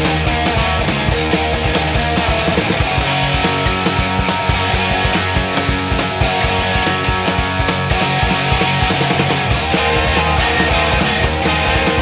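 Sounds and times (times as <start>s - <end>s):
distorted electric guitar: 0.0s - 12.0s
steady drum beat: 0.0s - 12.0s.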